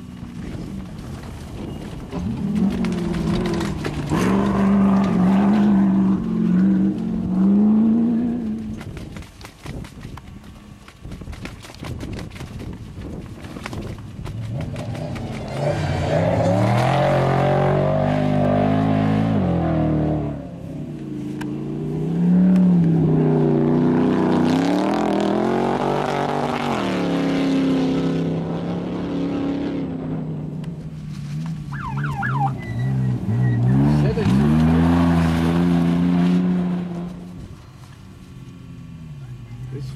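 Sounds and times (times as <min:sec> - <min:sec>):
race vehicles passing: 0:00.0 - 0:09.2, 0:14.3 - 0:39.9.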